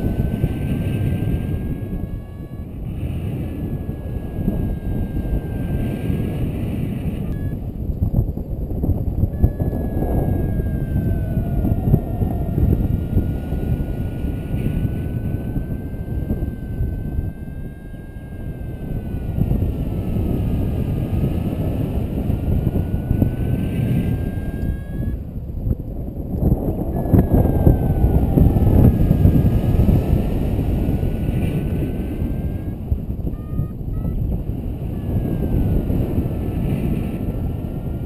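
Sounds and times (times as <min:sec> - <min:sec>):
faint wavering thin tone: 0:00.0 - 0:07.9, 0:09.2 - 0:25.5, 0:26.8 - 0:38.0
wind buffeting microphone: 0:00.0 - 0:38.0.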